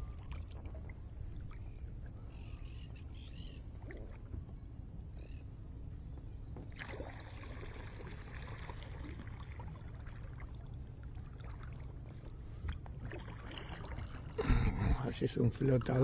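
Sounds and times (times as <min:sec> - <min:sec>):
paddle splashing water: 0:00.0 - 0:02.6, 0:03.3 - 0:04.5, 0:06.6 - 0:16.0.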